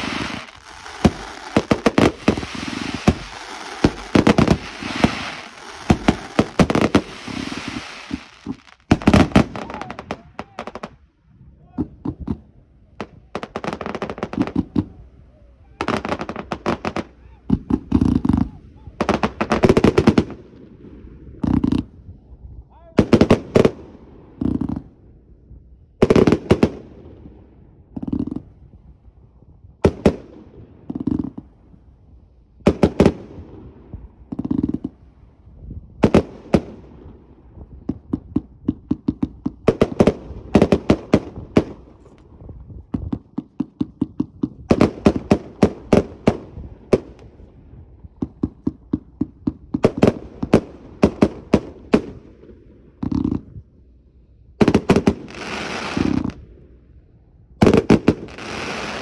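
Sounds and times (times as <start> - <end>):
fireworks bursting and crackling: 0.0 - 11.1, 11.7 - 22.3, 23.0 - 25.0, 26.0 - 28.8, 29.7 - 53.8, 54.5 - 56.9, 57.5 - 59.0.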